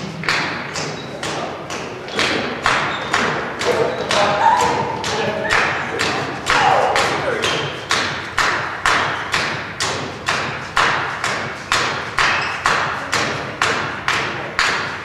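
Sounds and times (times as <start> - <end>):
dancers stamping on hard floor: 0.0 - 15.0.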